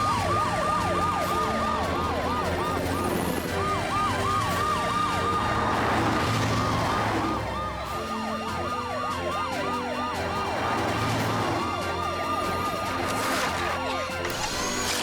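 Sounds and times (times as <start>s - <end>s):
cartoon sirens wailing: 0.0s - 15.0s.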